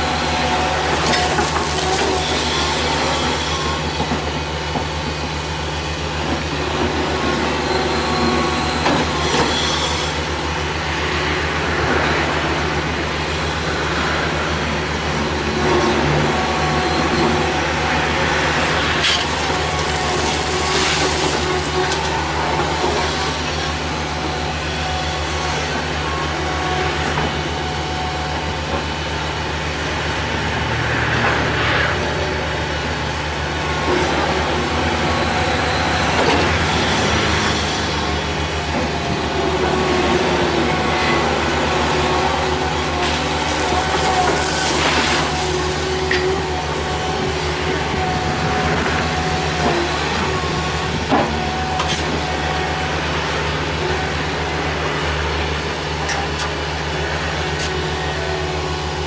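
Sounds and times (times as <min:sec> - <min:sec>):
excavator diesel engine humming: 0:00.0 - 0:59.0.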